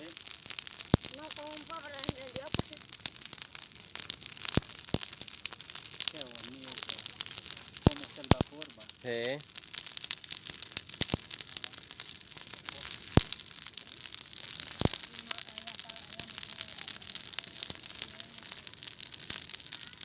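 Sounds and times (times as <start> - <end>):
campfire crackling: 0.0 - 20.0
sharp pops from fire: 0.0 - 20.0.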